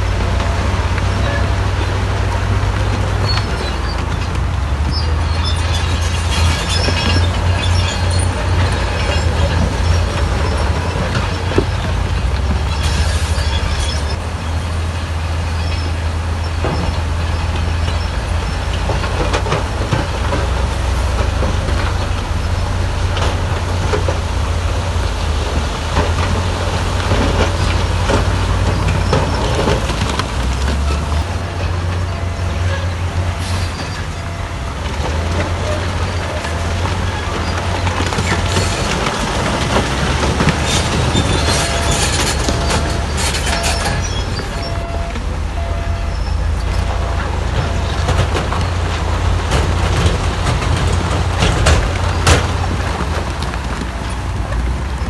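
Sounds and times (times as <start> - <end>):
diesel engine drone: 0.0 - 55.0
machinery clanks and knocks: 0.0 - 55.0.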